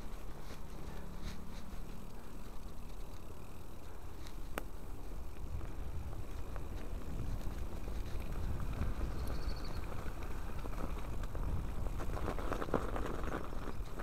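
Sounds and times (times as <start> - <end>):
low rumble of riding: 0.0 - 14.0.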